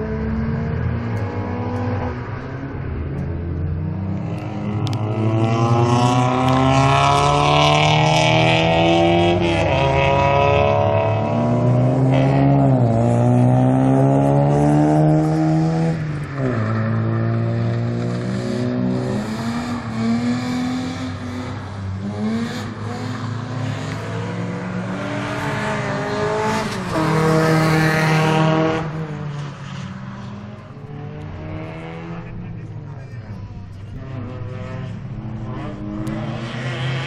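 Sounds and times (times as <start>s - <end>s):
racing car engines accelerating: 0.0s - 37.0s.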